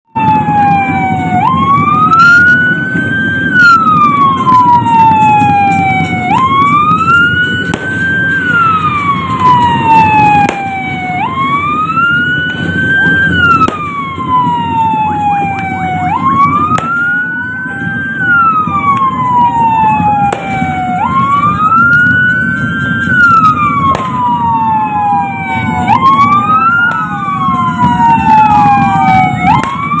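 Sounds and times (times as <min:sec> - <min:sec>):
siren wailing: 0:00.1 - 0:30.0
steady low rumble: 0:00.2 - 0:30.0.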